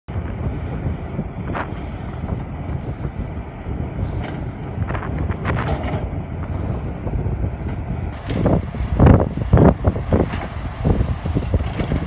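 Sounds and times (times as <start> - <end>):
diesel engines rumbling: 0.1 - 12.0
wind buffeting microphone: 0.1 - 12.0.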